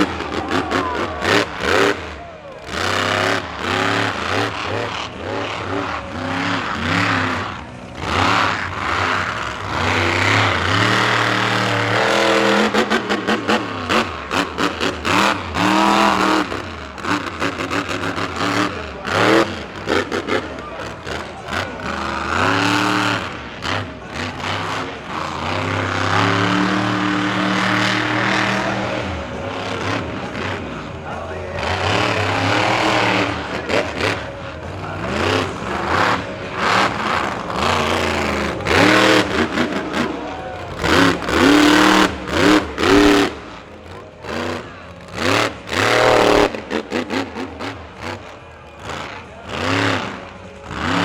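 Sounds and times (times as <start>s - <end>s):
monster truck engine revving: 0.0s - 51.0s.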